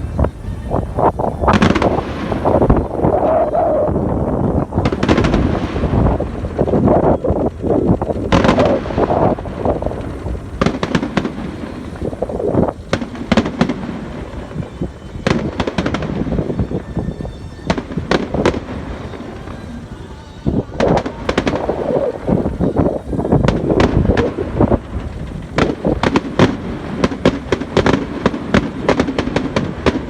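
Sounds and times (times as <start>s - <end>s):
fireworks cracking and banging: 0.0s - 30.0s
wind rushing over microphone: 0.0s - 30.0s.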